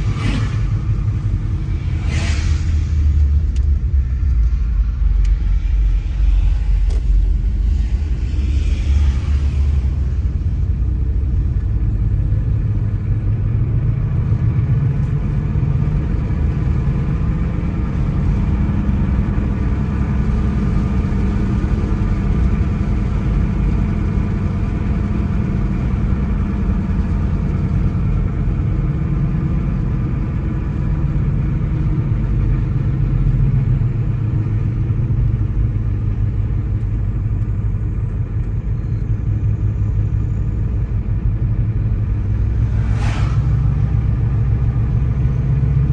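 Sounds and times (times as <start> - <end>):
car engine rumble: 0.0 - 45.9
tyre noise on road: 0.0 - 45.9.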